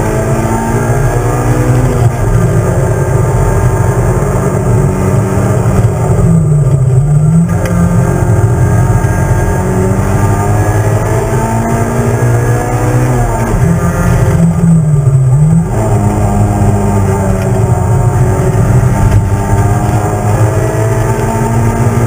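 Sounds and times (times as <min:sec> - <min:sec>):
racing car engine revving: 0:00.0 - 0:22.0.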